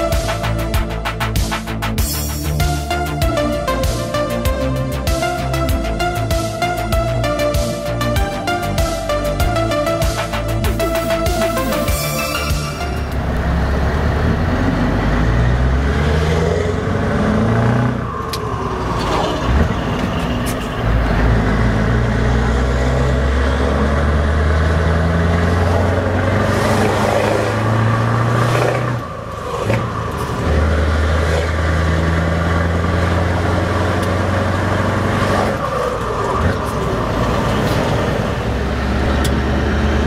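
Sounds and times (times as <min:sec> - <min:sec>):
diesel truck engine pulling under load: 0:05.4 - 0:40.0.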